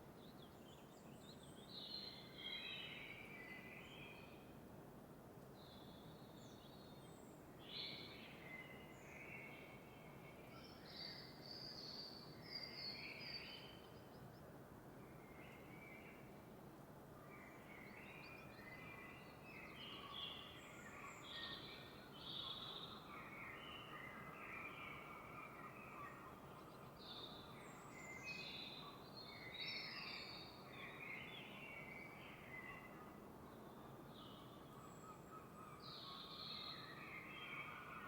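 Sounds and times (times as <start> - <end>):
songbirds chirping: 0.0 - 4.7, 5.4 - 38.0.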